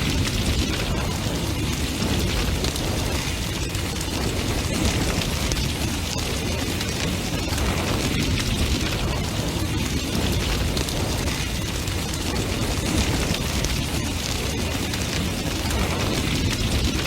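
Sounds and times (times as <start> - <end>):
bonfire roaring and crackling: 0.0 - 17.0.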